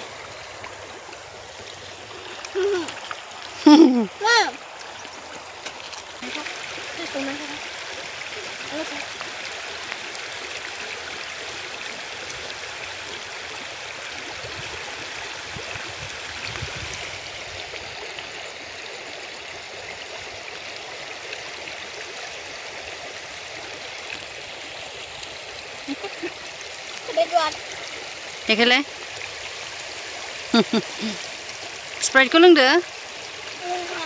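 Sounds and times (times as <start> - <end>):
river water rushing: 0.0 - 19.3, 22.6 - 34.0.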